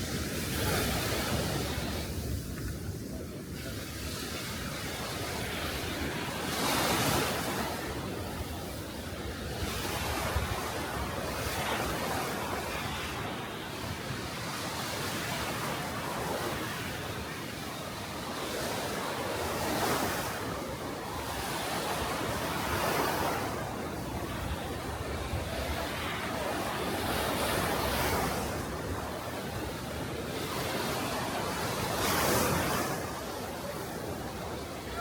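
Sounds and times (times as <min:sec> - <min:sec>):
small waves washing up beach: 0:00.0 - 0:35.0.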